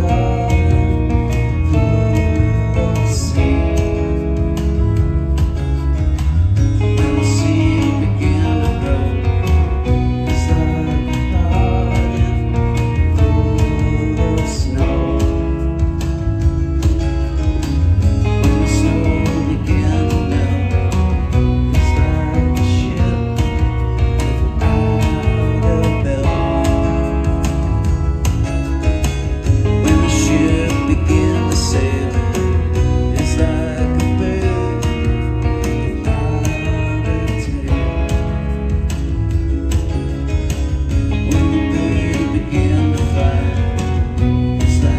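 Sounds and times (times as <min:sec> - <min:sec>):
electric twelve-string guitar: 0:00.0 - 0:44.9
live band music: 0:00.0 - 0:44.9
low bass line: 0:00.0 - 0:44.9
strummed acoustic guitar: 0:00.0 - 0:44.9.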